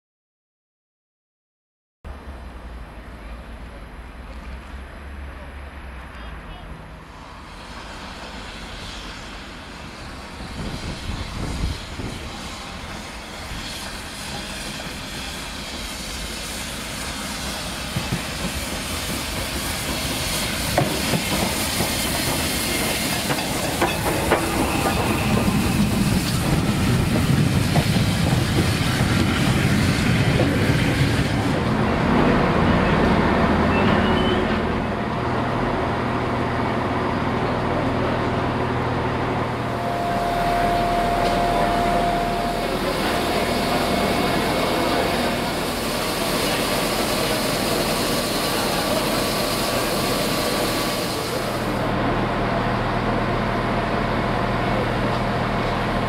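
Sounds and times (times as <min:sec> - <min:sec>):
train rumbling past: 0:02.1 - 0:56.0
steam locomotive hissing: 0:07.1 - 0:38.7, 0:39.3 - 0:56.0.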